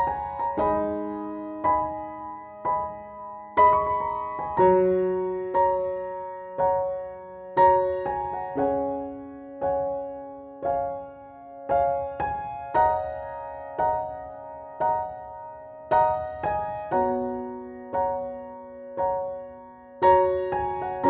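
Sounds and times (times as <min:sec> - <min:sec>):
slow gentle piano chords: 0:00.0 - 0:21.0.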